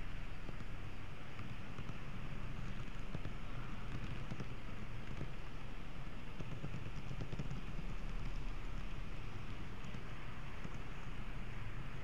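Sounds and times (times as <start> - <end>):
model train motor and wheels rumbling: 0.0 - 12.0
faint clicks: 0.3 - 12.0.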